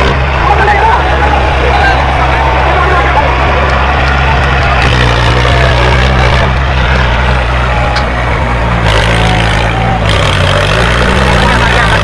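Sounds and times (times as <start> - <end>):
tractor engines droning: 0.0 - 12.0.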